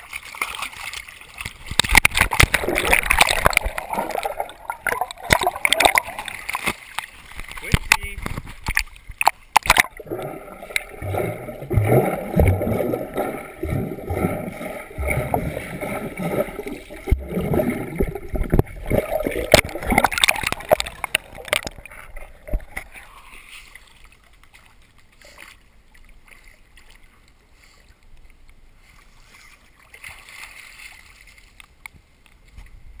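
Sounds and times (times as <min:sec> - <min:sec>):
water sloshing and splashing: 0:00.0 - 0:28.0, 0:28.8 - 0:32.8.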